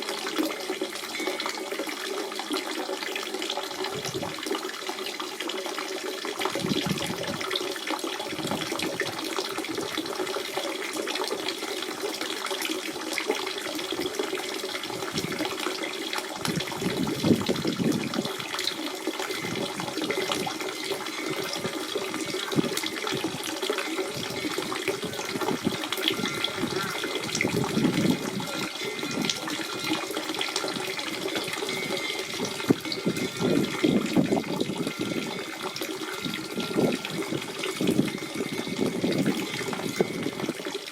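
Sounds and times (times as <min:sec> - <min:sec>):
spring water trickling: 0:00.0 - 0:40.9.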